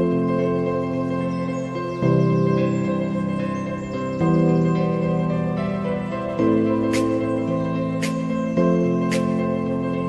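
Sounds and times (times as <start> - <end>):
calm new-age music: 0.0 - 10.0.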